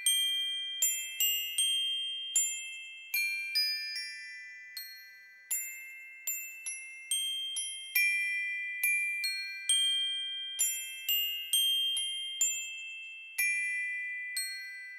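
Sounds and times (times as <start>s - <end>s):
slow bell-like melody: 0.0s - 14.9s.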